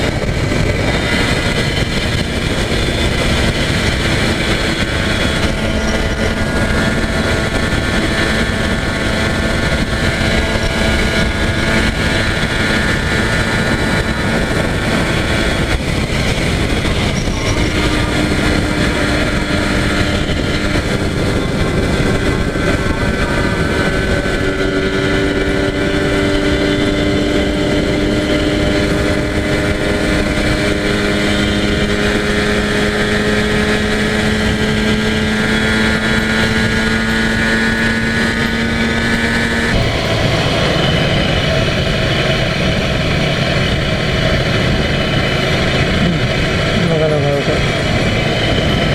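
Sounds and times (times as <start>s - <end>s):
two-stroke motorcycle engine cruising: 0.0s - 48.9s.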